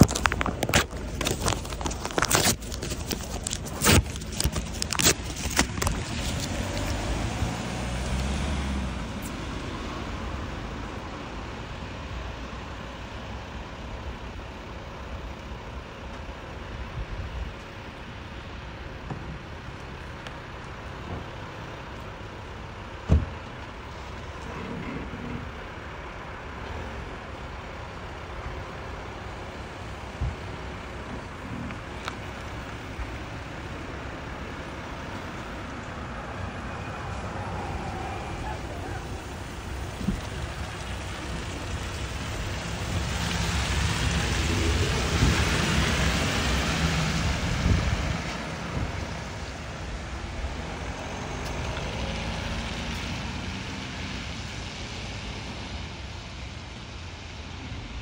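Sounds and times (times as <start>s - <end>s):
road traffic hum: 0.0s - 58.0s.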